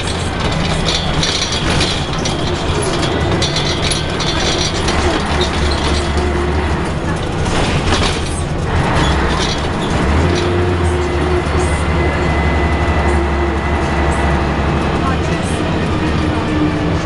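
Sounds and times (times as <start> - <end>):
interior panels rattling: 0.0 - 13.8
bus diesel engine drone: 0.0 - 17.0
road and tyre noise: 0.0 - 17.0.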